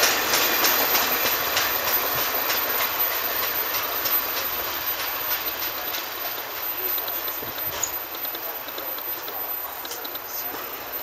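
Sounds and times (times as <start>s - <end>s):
train passing: 0.0s - 11.0s
wheels clicking over rail joints: 0.0s - 11.0s.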